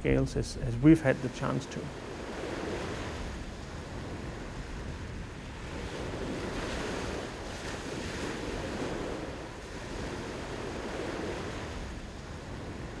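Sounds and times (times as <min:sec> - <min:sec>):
wind buffeting microphone: 0:00.0 - 0:13.0
surf washing onto beach: 0:00.8 - 0:13.0.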